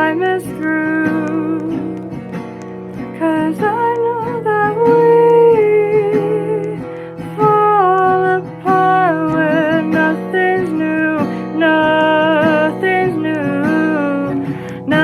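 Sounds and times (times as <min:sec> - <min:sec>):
person singing long notes: 0:00.0 - 0:02.3, 0:03.2 - 0:15.0
acoustic guitar: 0:00.0 - 0:15.0.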